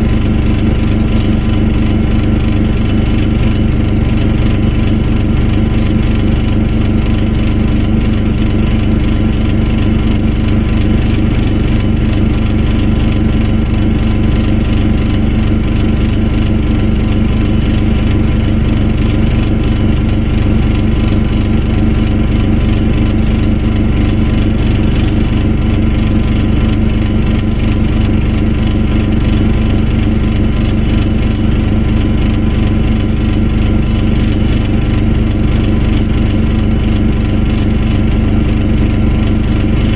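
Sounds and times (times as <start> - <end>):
engine running steadily: 0.0 - 39.9
high-pitched whine: 0.0 - 39.9.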